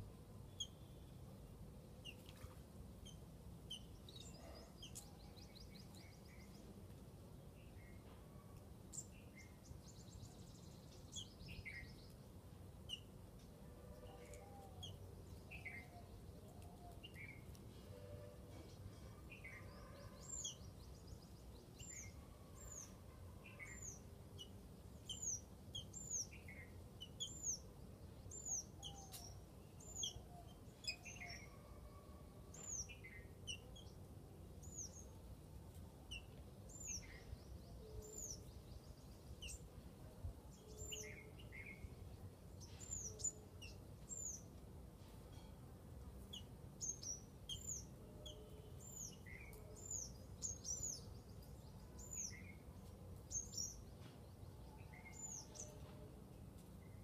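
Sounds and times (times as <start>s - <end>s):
small birds chirping: 0.0s - 1.3s, 1.9s - 7.0s, 7.6s - 17.9s, 18.6s - 31.7s, 32.5s - 55.9s.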